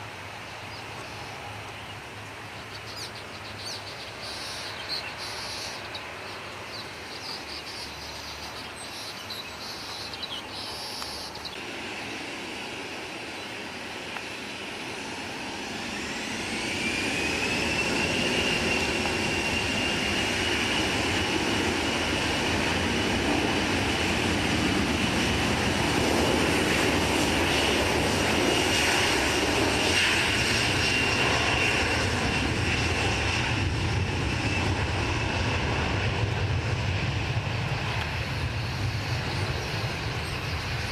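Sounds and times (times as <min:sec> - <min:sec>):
airliner engines spooling up: 0:00.0 - 0:40.9.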